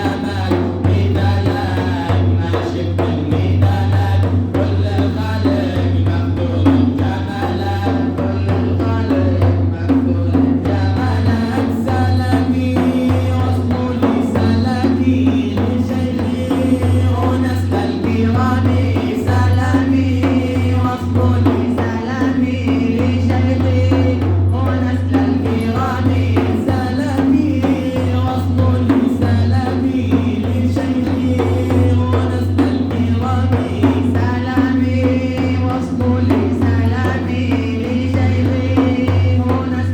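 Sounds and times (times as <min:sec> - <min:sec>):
devotional song singing: 0:00.0 - 0:39.9
steady drum beat: 0:00.0 - 0:39.9.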